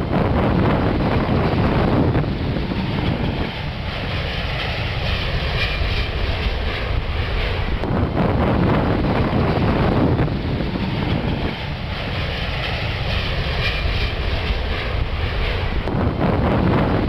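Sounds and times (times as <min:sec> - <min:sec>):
jet engine rumble: 0:00.0 - 0:17.0
wind buffeting microphone: 0:00.0 - 0:17.0.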